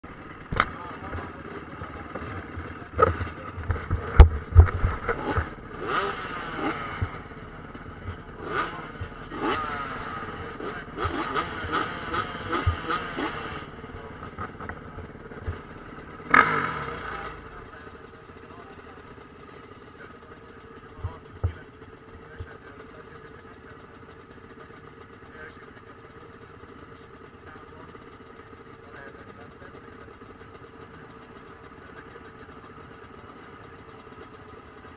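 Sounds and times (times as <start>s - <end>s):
motorcycles revving: 0.0s - 34.9s.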